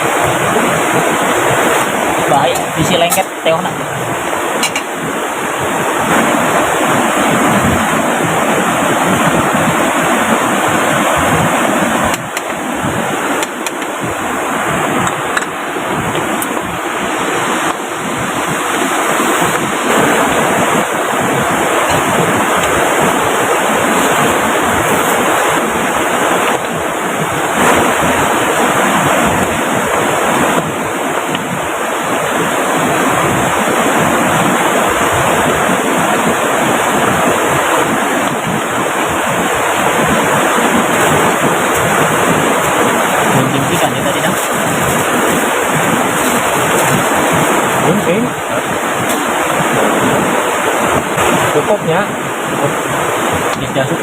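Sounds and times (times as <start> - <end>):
heavy rain: 0.0 - 54.0
river rushing: 0.0 - 54.0.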